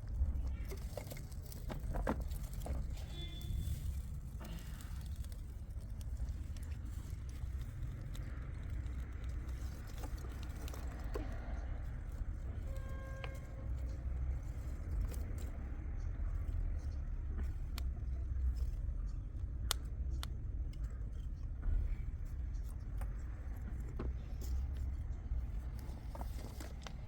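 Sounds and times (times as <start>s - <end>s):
light clicks and rattles: 0.0s - 27.0s
low vehicle rumble: 0.0s - 27.0s.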